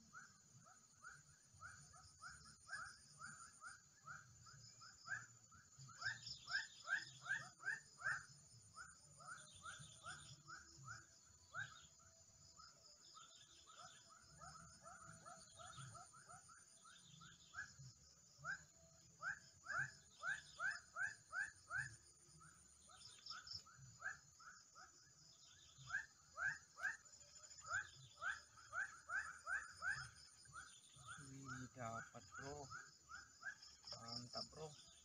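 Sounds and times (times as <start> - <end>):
faint chirping animal calls: 0.0 - 35.0.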